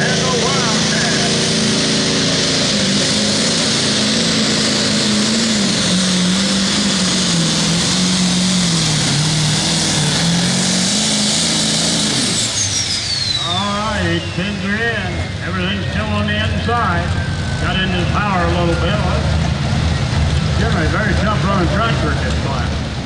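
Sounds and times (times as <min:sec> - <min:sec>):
high whine: 0:00.0 - 0:23.0
tractor diesel engine at full throttle: 0:00.0 - 0:23.0.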